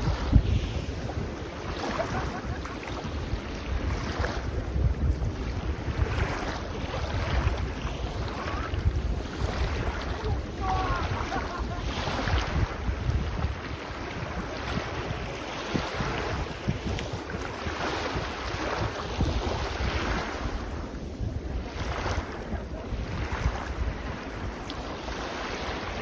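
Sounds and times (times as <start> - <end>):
small waves breaking on beach: 0.0 - 26.0
wind buffeting microphone: 0.0 - 26.0.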